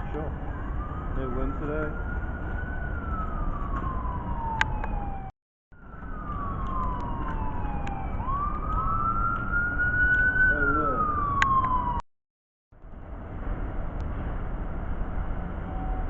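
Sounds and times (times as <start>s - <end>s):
emergency siren wailing: 0.0s - 12.1s, 15.2s - 16.0s.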